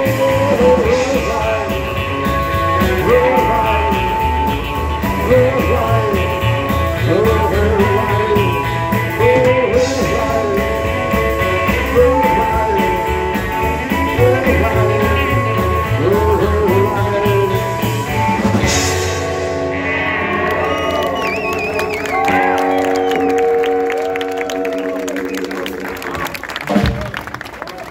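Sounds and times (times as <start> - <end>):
person singing: 0.0 - 25.8
acoustic and electric guitars: 0.0 - 27.9
drums keeping a beat: 0.0 - 27.9
upright bass: 0.0 - 27.9.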